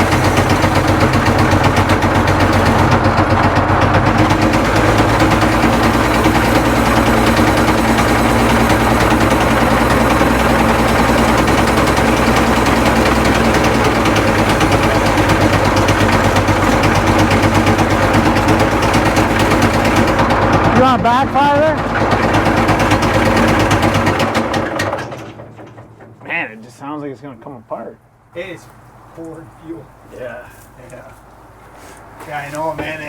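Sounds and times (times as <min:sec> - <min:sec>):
diesel engine knocking: 0:00.0 - 0:26.5.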